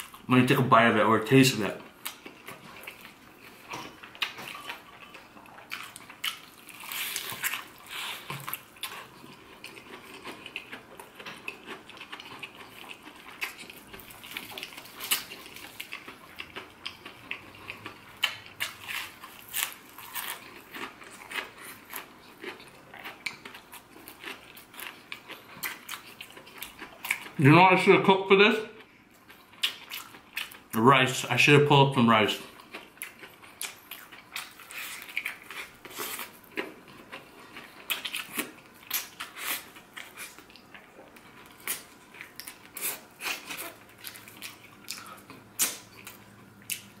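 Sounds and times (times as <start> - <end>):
chewing crispy fried chicken: 1.7 - 27.9, 28.7 - 31.4, 32.2 - 47.0.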